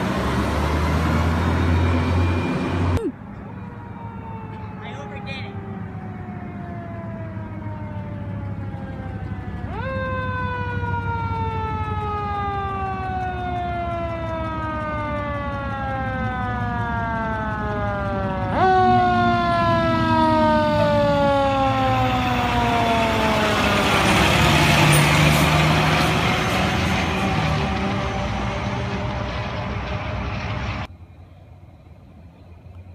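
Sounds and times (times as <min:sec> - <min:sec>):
fire truck siren: 0:00.0 - 0:30.9
low engine rumble: 0:00.0 - 0:32.9.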